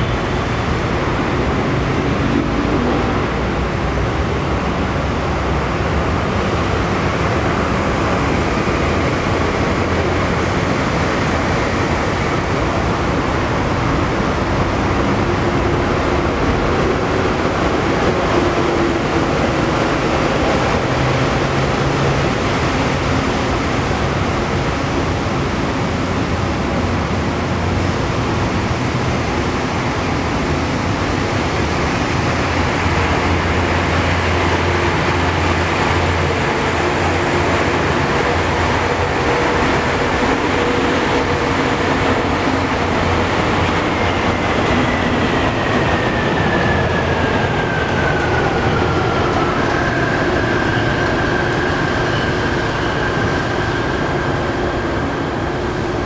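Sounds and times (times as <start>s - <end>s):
monorail train rumbling: 0.0s - 56.0s.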